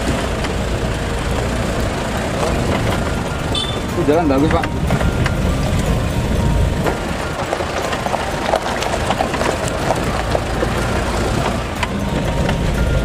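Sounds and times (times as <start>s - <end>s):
engine and road rumble: 0.0s - 13.0s
body rattles and knocks: 0.1s - 13.0s.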